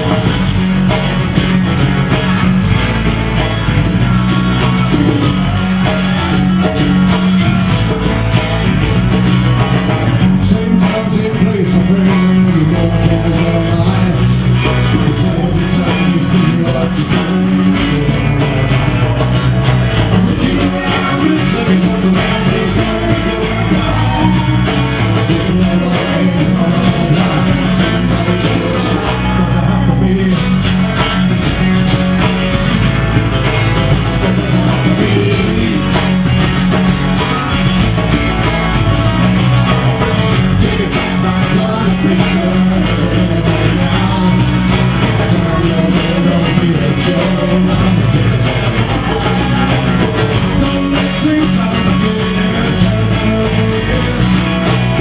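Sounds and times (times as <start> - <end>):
electric guitar: 0.0 - 55.0
live rock band playing: 0.0 - 55.0
low bass line: 0.0 - 55.0.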